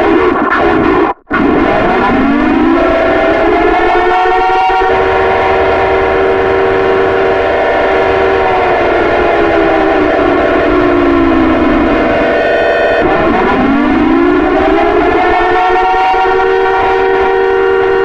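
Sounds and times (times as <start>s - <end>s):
air-raid siren winding down: 1.3s - 18.0s.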